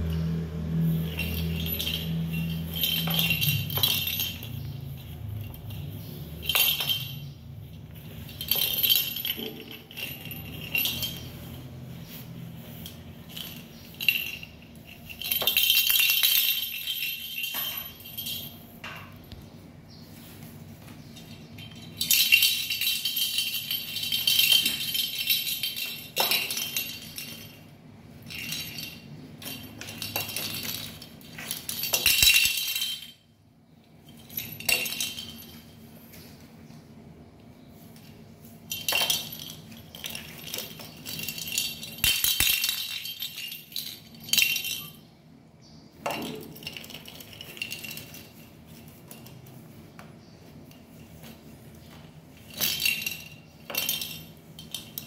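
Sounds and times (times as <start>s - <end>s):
bell ball jingling and rattling: 0.0s - 19.3s, 19.9s - 36.0s, 37.8s - 45.2s, 46.0s - 55.0s.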